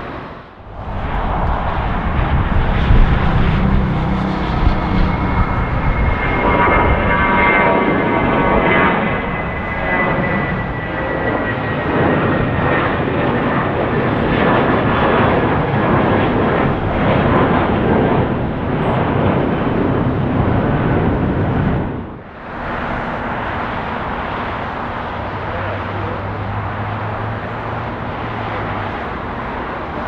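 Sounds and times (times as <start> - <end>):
jet engine noise: 0.0 - 30.0.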